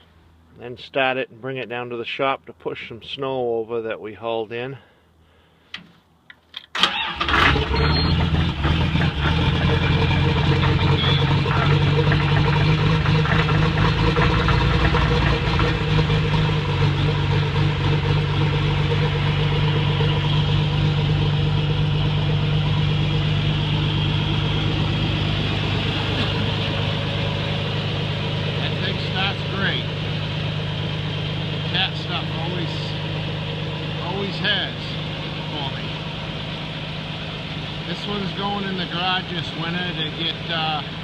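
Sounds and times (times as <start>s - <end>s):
diesel engine starting and idling: 6.7s - 41.0s.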